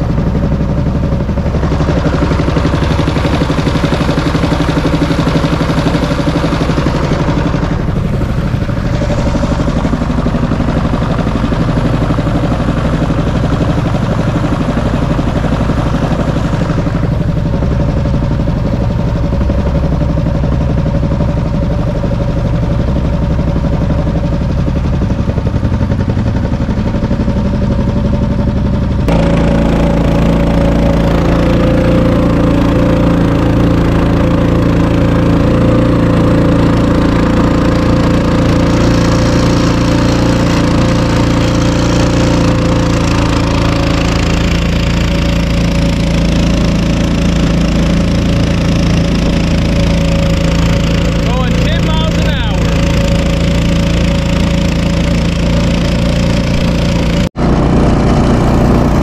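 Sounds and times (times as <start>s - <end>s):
outboard motor running: 0.0s - 59.0s
water wash: 0.0s - 59.0s.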